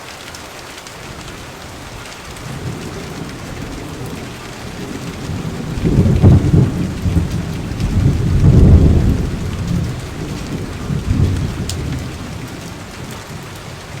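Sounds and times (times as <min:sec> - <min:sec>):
steady rain: 0:00.0 - 0:14.0
rumbles of thunder: 0:01.2 - 0:14.0.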